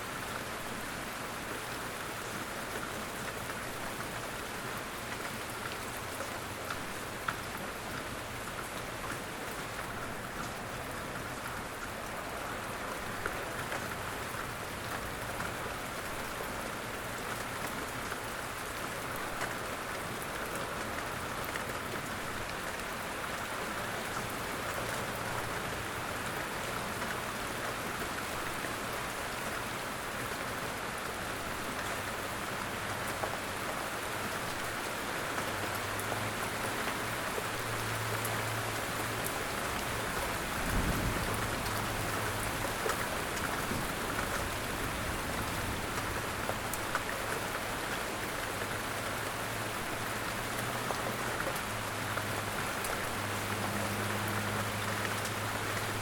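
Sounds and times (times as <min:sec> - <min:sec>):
light rain patter: 0:00.0 - 0:56.0.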